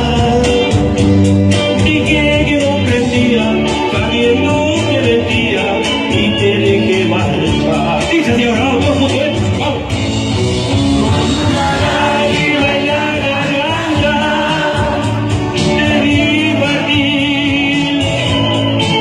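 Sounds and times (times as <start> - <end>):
live music with singing: 0.0 - 19.0.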